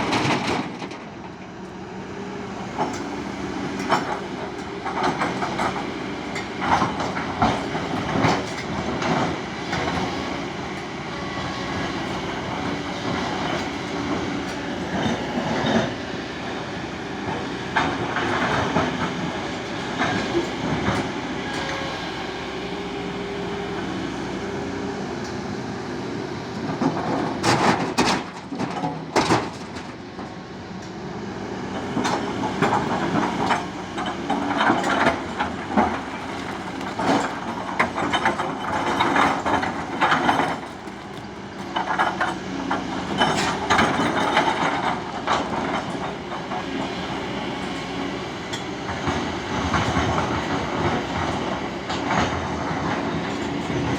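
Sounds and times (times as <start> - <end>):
excavator diesel engine droning: 0.0 - 53.9.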